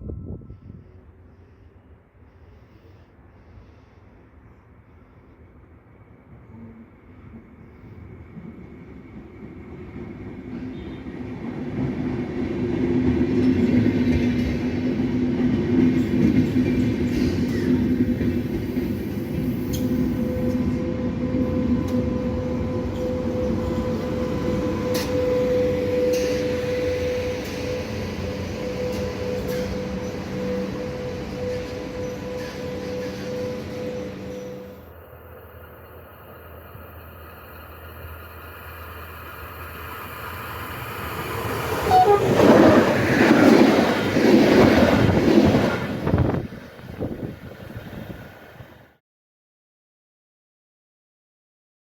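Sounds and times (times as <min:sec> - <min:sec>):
train rumbling on rails: 0:00.0 - 0:49.0
train whine: 0:00.0 - 0:49.0.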